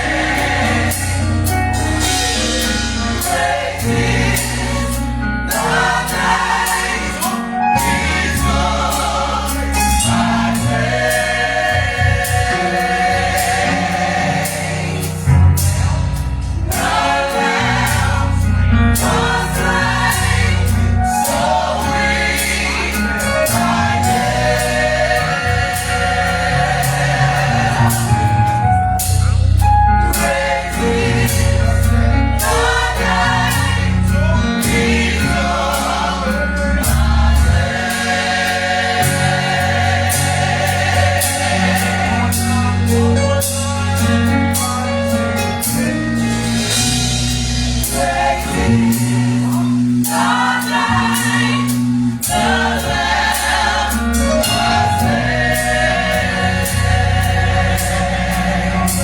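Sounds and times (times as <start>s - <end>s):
bass line: 0.0s - 59.0s
gospel choir singing: 0.0s - 59.0s.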